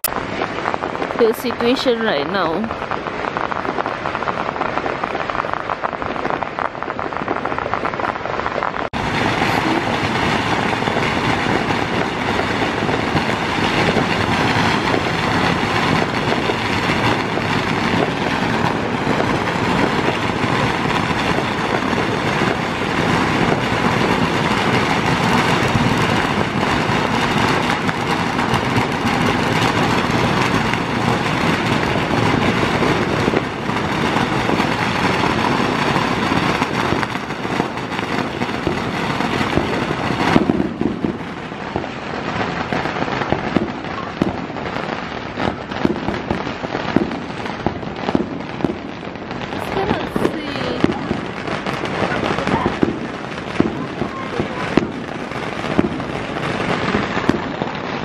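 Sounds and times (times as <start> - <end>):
aerial fireworks bursting: 0.0 - 58.0
firecrackers crackling: 0.0 - 58.0.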